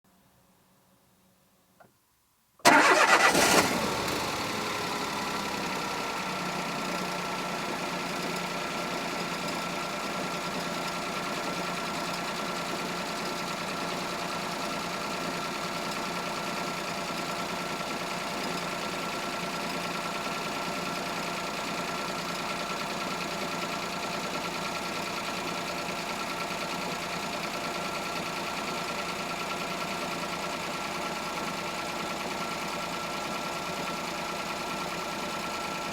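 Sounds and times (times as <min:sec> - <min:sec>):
car engine starting and idling: 0:02.6 - 0:35.9.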